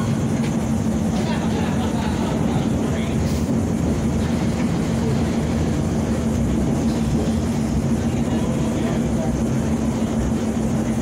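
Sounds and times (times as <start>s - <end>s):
subway car rumbling: 0.0s - 11.0s.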